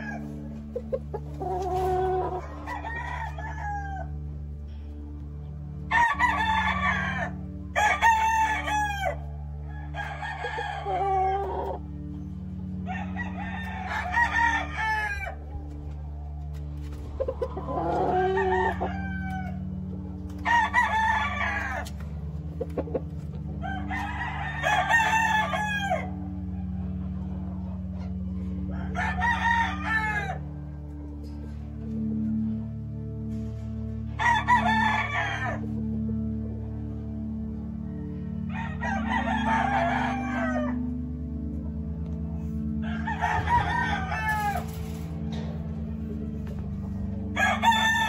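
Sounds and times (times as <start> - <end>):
roosters crowing: 0.0 - 5.1, 5.7 - 32.3, 34.1 - 37.3, 38.0 - 48.0.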